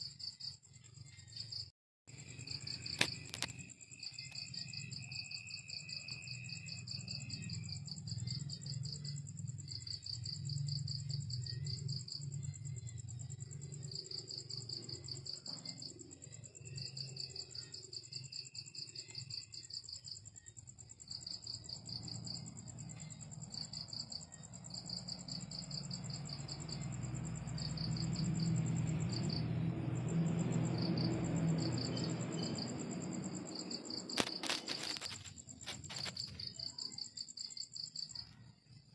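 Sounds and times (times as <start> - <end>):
crickets chirping: 0.0 - 38.9
high insect trill: 0.0 - 38.9.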